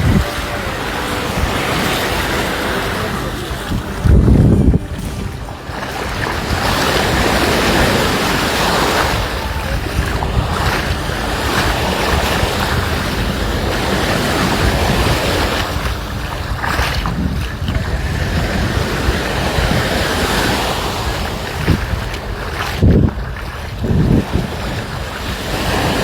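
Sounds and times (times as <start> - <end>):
sea waves washing onto beach: 0.0 - 26.0
wind buffeting microphone: 0.0 - 26.0.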